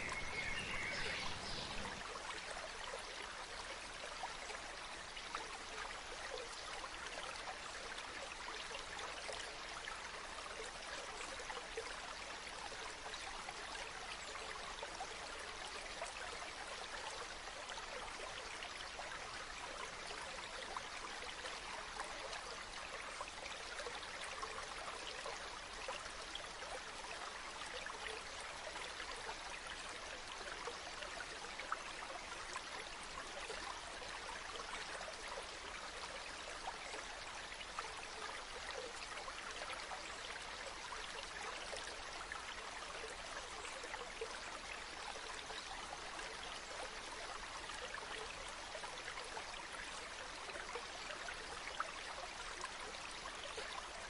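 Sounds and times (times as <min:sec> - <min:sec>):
stream murmuring over stones: 0:00.0 - 0:54.0.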